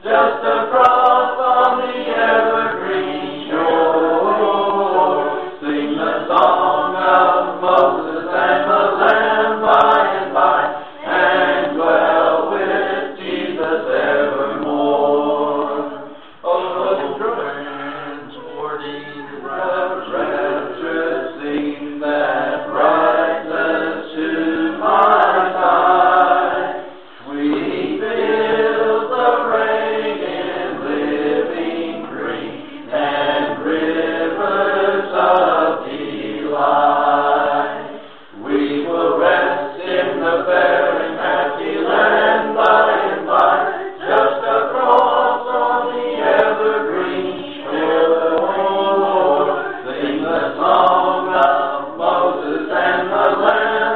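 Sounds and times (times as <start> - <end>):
group singing a hymn: 0.0 - 53.9.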